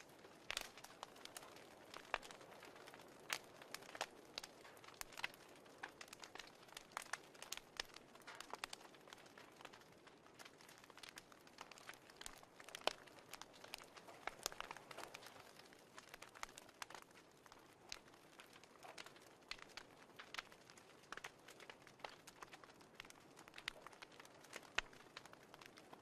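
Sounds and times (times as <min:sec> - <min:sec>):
burning wood crackling: 0:00.0 - 0:26.0
soft steady hiss: 0:00.0 - 0:26.0.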